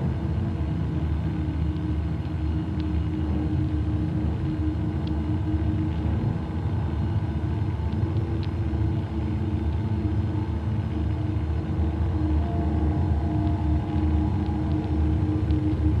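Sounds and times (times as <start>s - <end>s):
low rumble drone: 0.0s - 16.0s.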